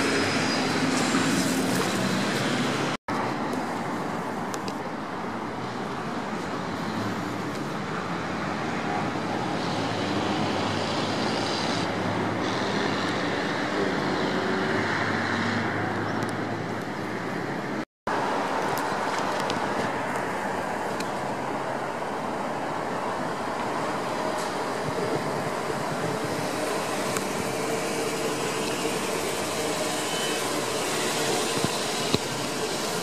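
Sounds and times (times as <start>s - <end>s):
tram running rumble: 0.0s - 14.8s, 15.7s - 33.0s.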